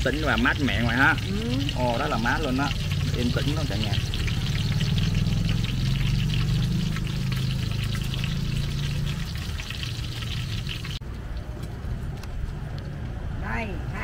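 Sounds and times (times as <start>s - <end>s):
deep-frying sizzle with crackles: 0.0s - 12.8s.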